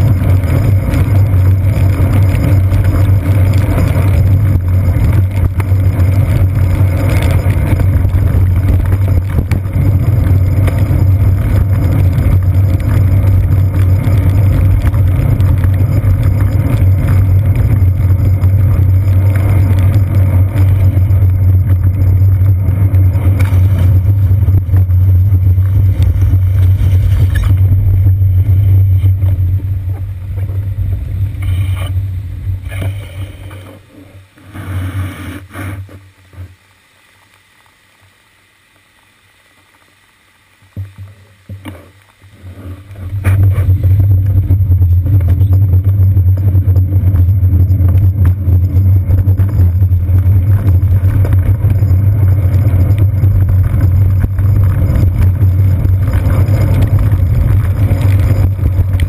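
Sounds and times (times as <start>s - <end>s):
bicycle rumbling on wet pavement: 0.0s - 59.0s.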